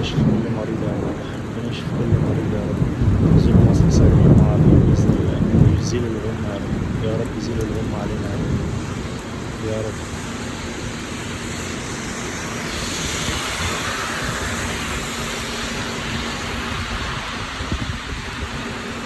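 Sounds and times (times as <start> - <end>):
steady low hum: 0.0 - 17.3
heavy rain rushing: 0.0 - 19.0
tyre hiss on wet road: 0.0 - 19.0.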